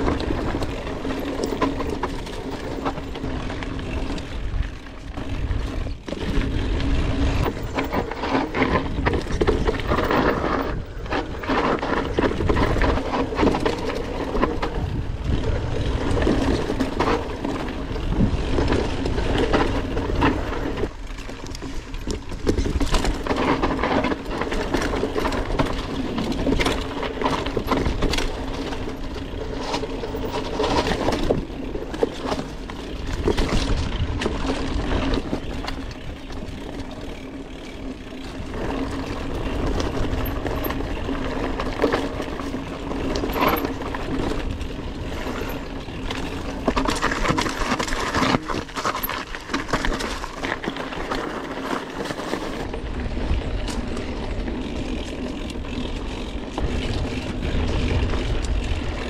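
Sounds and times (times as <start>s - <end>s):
bike rattling over rough ground: 0.0s - 59.0s
low wind rumble: 0.0s - 59.0s.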